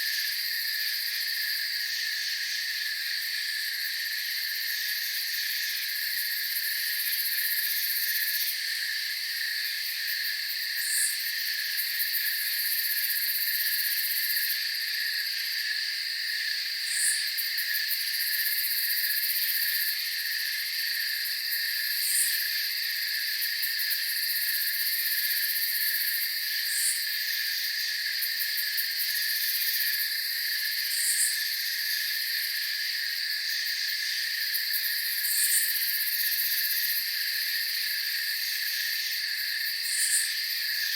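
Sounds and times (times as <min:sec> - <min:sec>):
crickets and insects trilling: 0:00.0 - 0:40.9
high insect chirp: 0:00.0 - 0:40.9.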